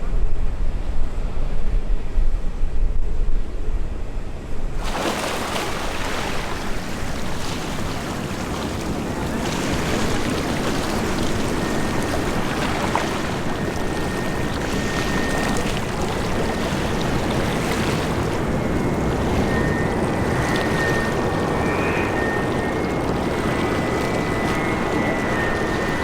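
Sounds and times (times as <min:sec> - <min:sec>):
faint thin whine: 0:00.0 - 0:26.0
jet engines roaring: 0:04.8 - 0:26.0.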